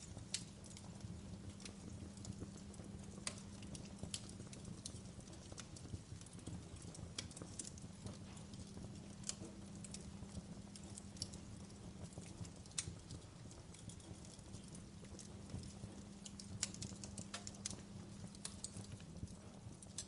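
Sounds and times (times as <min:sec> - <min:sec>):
faint low hum: 0:00.0 - 0:20.0
fire crackling: 0:00.0 - 0:20.0.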